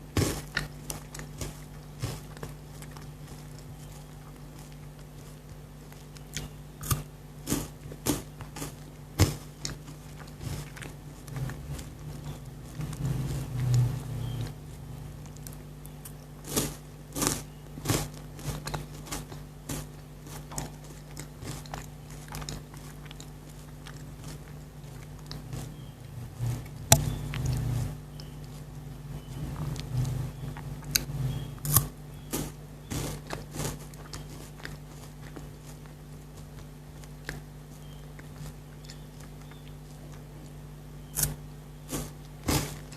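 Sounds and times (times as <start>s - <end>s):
crunching wafer bar: 0.0s - 42.9s
soft chewing: 0.0s - 42.9s
steady low hum: 0.0s - 42.9s.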